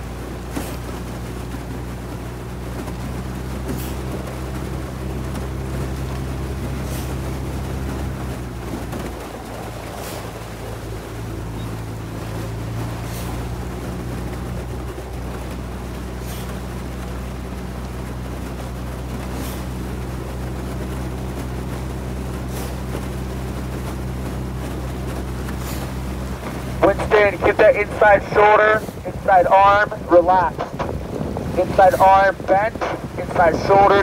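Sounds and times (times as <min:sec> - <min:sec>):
oar blades splashing: 0:00.0 - 0:34.0
outboard motor running: 0:00.0 - 0:34.0
water and wind hiss: 0:00.0 - 0:34.0.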